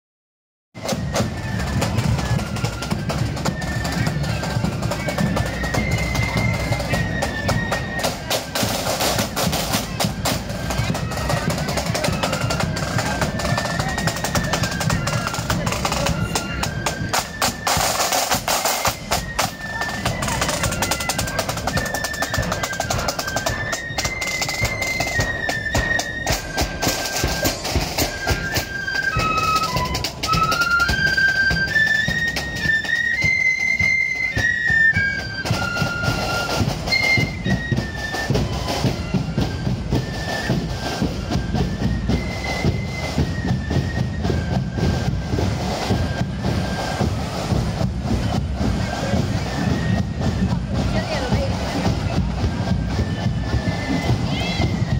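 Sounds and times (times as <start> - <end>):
flute melody: 0.8 - 54.9
side drum rolls and beats: 0.8 - 54.9.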